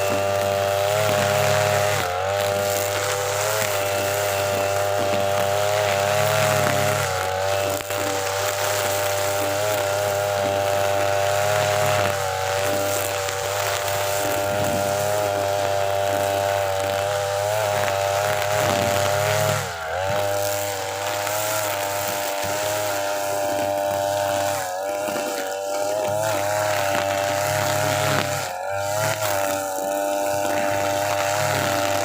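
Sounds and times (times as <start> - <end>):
brush cutter cutting grass: 0.0 - 32.0.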